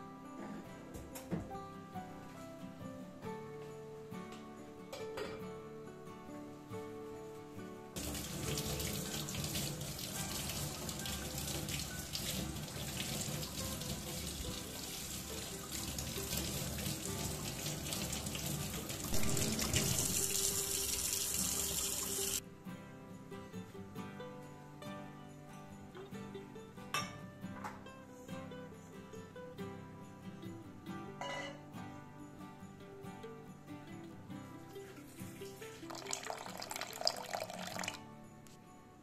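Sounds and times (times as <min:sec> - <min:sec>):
background music: 0:00.0 - 0:39.0.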